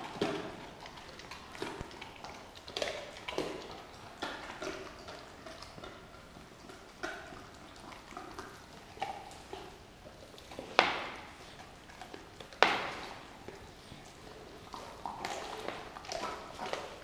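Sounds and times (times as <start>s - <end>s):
dogs chewing: 0.0s - 17.0s.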